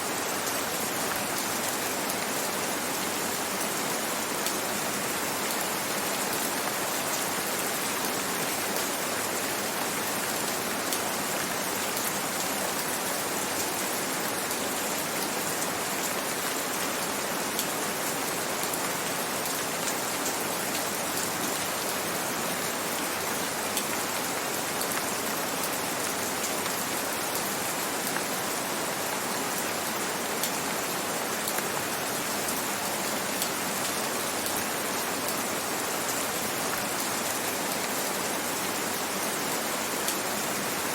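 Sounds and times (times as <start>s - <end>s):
gentle rain: 0.0s - 40.9s.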